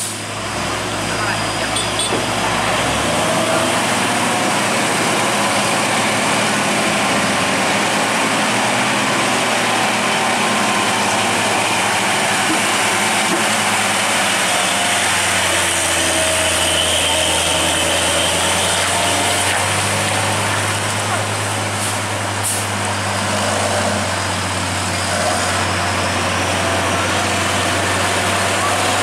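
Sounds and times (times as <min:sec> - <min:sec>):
diesel truck engine under load: 0:00.0 - 0:29.0.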